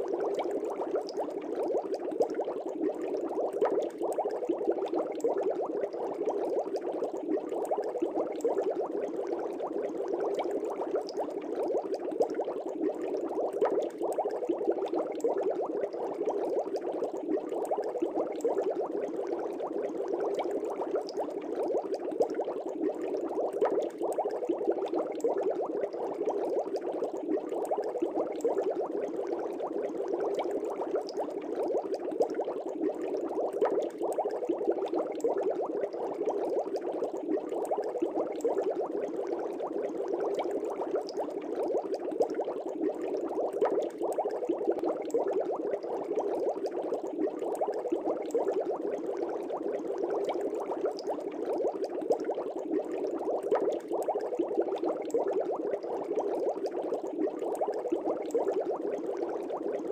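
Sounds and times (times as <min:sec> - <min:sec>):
air bubbles in fish tank water: 0:00.0 - 0:59.9.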